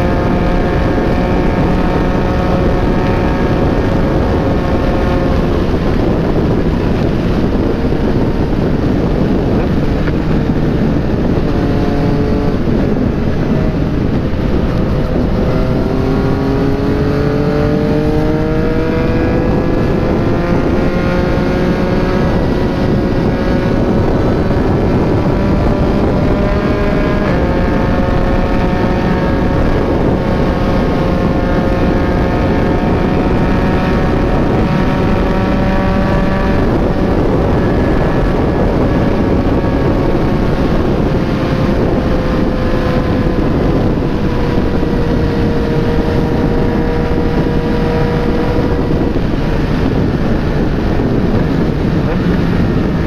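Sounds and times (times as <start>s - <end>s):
motorcycle engine cruising: 0.0s - 53.0s
wind on microphone: 0.0s - 53.0s.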